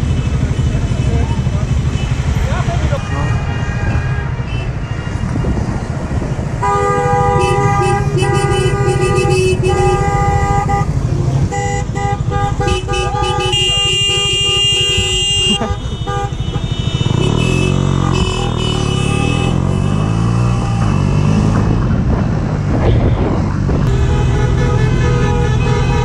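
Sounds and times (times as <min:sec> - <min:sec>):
engine and traffic rumble: 0:00.0 - 0:26.0
car horns honking: 0:01.8 - 0:05.5, 0:06.5 - 0:21.8, 0:22.8 - 0:26.0.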